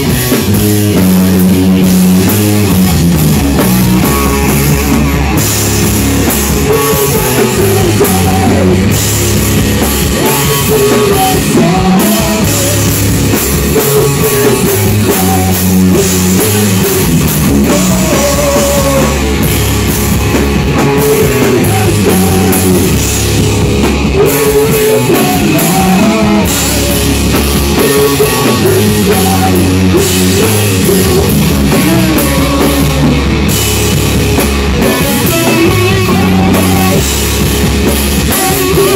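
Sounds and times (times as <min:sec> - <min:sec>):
drum kit: 0:00.0 - 0:38.9
electric guitar: 0:00.0 - 0:38.9
rock band playing loud: 0:00.0 - 0:38.9.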